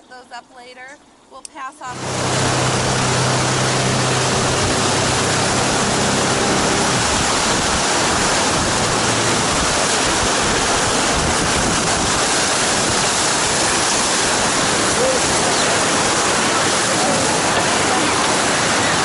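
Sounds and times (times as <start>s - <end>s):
low steady hum: 0.0s - 19.0s
whitewater rushing: 1.9s - 19.0s.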